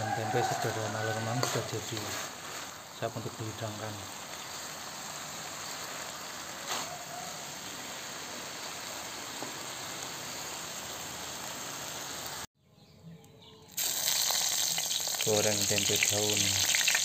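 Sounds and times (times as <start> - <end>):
stir-fry sizzling in a wok: 0.0 - 12.5, 13.8 - 17.0.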